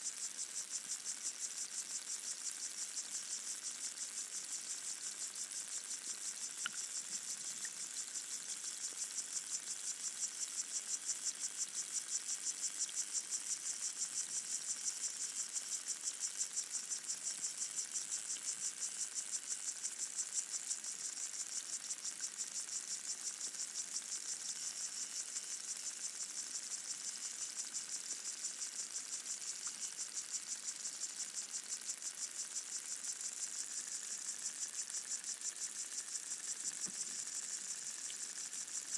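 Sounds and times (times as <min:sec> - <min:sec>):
faint ticks: 0:00.0 - 0:38.9
water insects buzzing underwater: 0:00.0 - 0:38.9.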